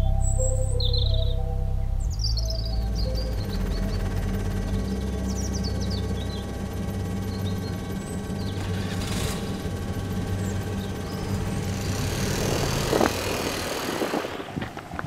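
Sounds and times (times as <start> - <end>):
motorbike engine running: 2.0 - 15.0.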